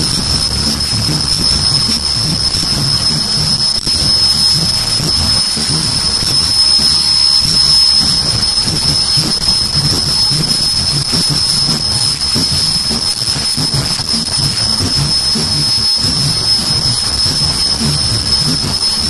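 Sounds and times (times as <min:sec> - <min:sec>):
continuous machine noise: 0:00.0 - 0:19.0
low pulse: 0:00.0 - 0:19.0
machine high whine: 0:00.0 - 0:19.0.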